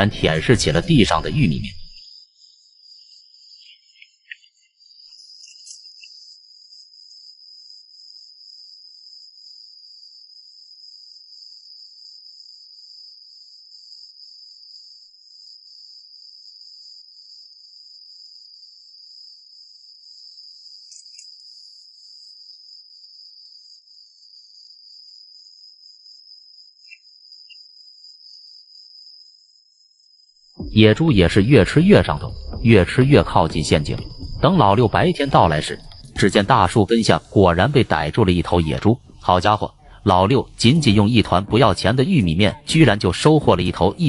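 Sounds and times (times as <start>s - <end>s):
night insects trilling: 0.0s - 44.0s.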